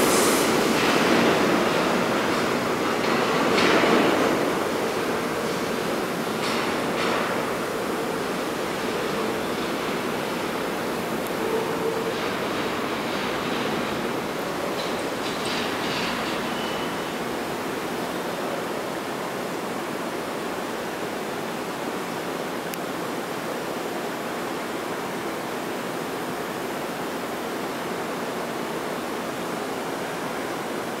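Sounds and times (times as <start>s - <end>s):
subway station rushing noise: 0.0s - 31.0s.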